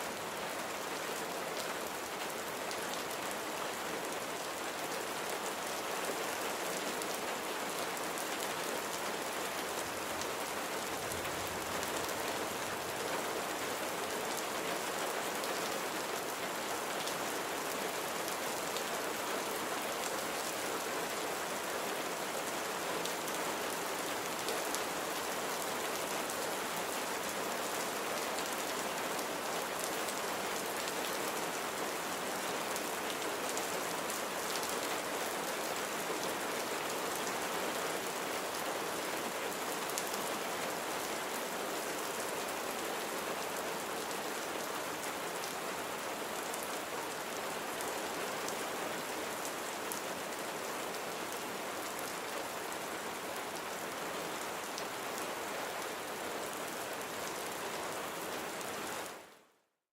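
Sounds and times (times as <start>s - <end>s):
rain falling on a surface: 0.0s - 59.5s.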